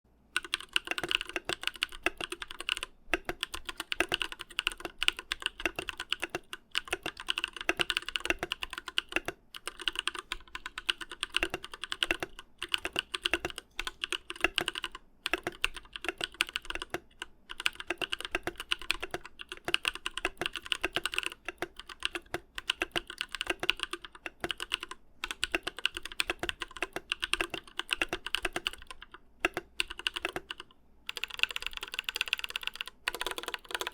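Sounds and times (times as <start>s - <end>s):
fast mechanical keyboard typing: 0.4s - 33.9s.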